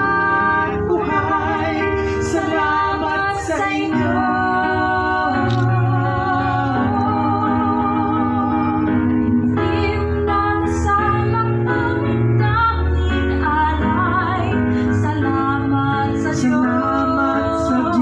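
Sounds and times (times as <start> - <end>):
sustained instrumental accompaniment: 0.0 - 18.0
woman singing slow song: 0.0 - 18.0.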